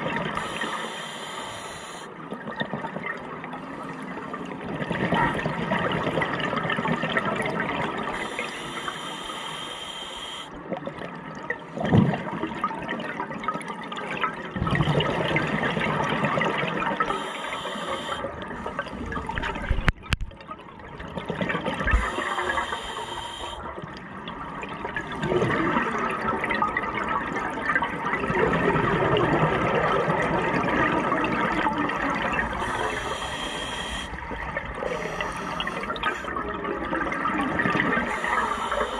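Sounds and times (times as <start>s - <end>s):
underwater exhaust bubbles gurgling: 0.0s - 38.9s.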